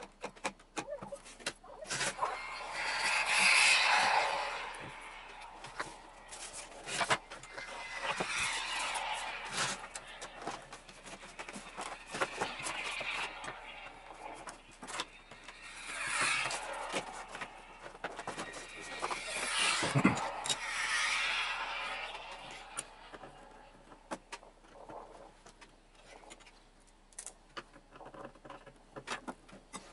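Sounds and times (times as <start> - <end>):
foam rubbing and rustling: 1.2 - 25.4.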